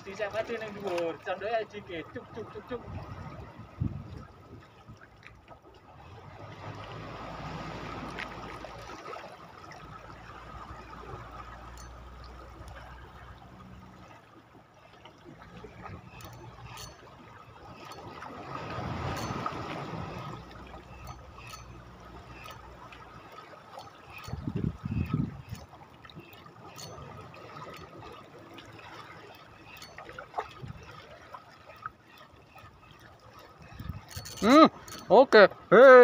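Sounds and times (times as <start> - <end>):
water lapping against rocks: 0.0 - 36.0.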